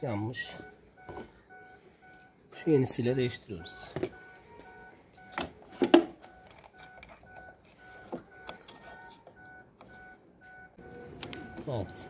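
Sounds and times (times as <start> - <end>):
car warning chime beeping: 0.0 - 12.0.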